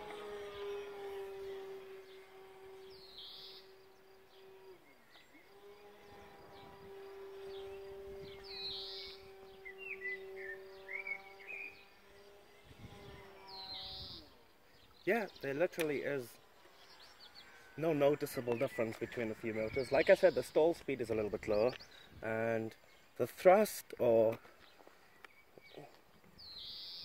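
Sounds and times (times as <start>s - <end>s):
model plane motor drone: 0.0s - 23.1s
bird chirping: 0.0s - 23.4s, 24.0s - 27.0s.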